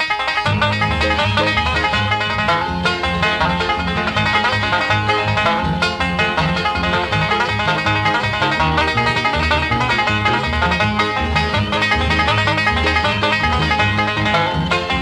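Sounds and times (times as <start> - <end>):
bass: 0.0 - 15.0
bluegrass music: 0.0 - 15.0
fast-picked banjo: 0.0 - 15.0.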